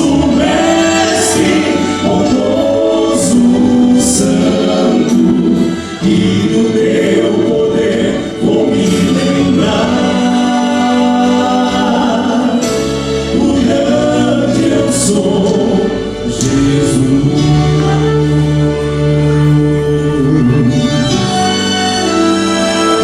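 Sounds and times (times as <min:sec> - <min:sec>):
low bass accompaniment: 0:00.0 - 0:23.0
vocal quartet singing gospel: 0:00.0 - 0:23.0.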